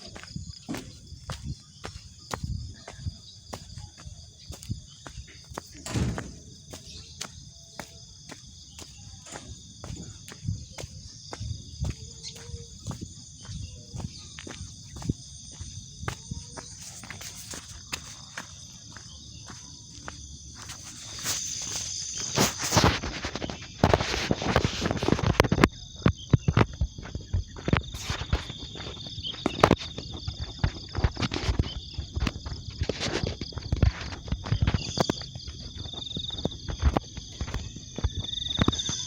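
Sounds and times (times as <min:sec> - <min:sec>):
insect chirring: 0:00.0 - 0:39.0.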